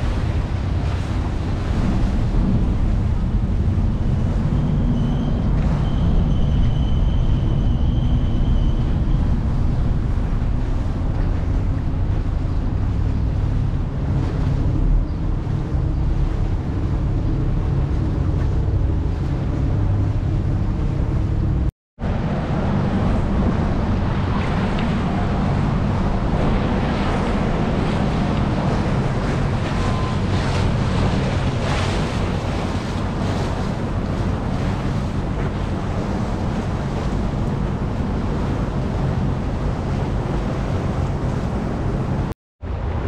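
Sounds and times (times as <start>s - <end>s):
boat engines running: 0.0s - 43.0s
surf: 0.0s - 43.0s
wind buffeting microphone: 0.0s - 43.0s.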